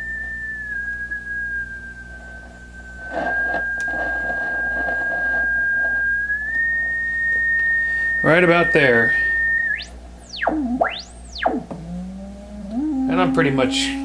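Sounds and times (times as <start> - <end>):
steady receiver beat-note whistle: 0.0 - 14.0.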